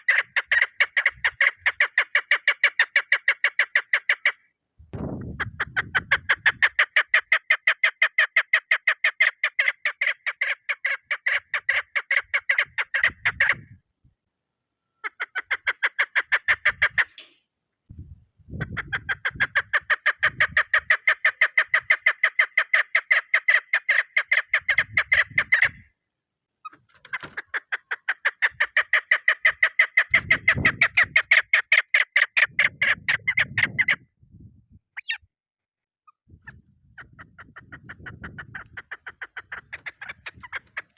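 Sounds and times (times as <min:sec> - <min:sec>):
partridge clucking calls: 0:00.0 - 0:04.4, 0:05.2 - 0:13.8, 0:15.0 - 0:17.5, 0:18.6 - 0:25.9, 0:26.6 - 0:34.1, 0:35.0 - 0:35.2, 0:36.1 - 0:40.9.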